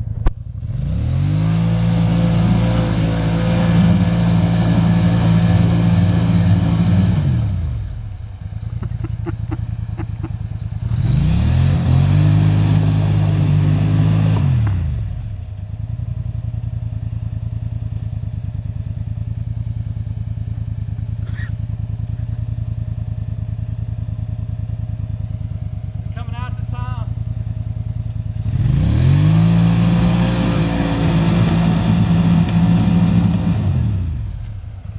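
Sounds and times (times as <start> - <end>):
atv engine revving and idling: 0.0 - 34.9.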